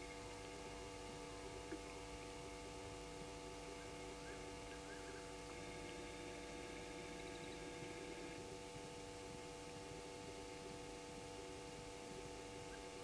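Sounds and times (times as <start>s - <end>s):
constant hum of held tones: 0.0s - 13.0s.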